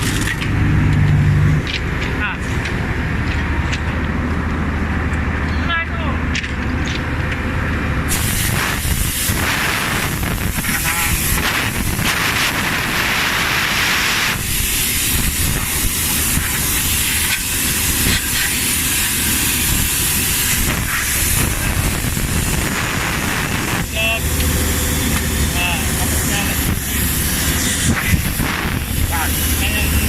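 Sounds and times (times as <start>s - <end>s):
power unit humming: 0.0s - 30.0s
rail welding hissing and crackling: 0.0s - 30.0s.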